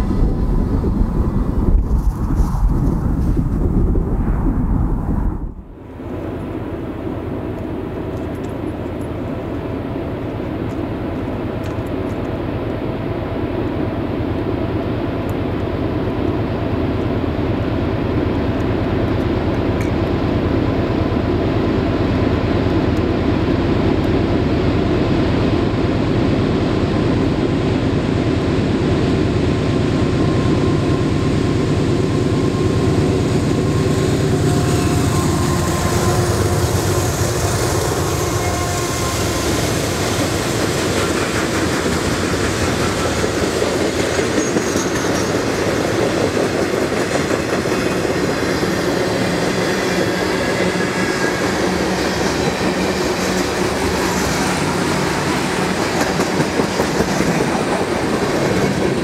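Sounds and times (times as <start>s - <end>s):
diesel locomotive engines: 5.6s - 59.0s.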